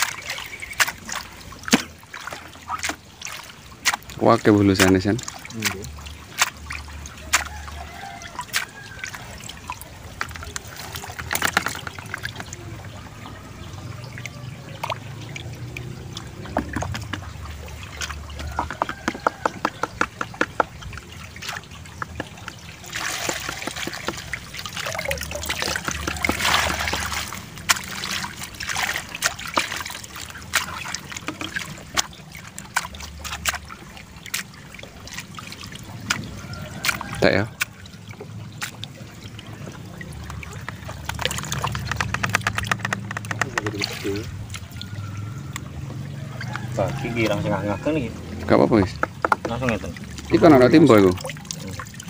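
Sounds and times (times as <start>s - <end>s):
water pouring and splashing: 0.0s - 52.0s
water trickling and dripping: 0.0s - 52.0s.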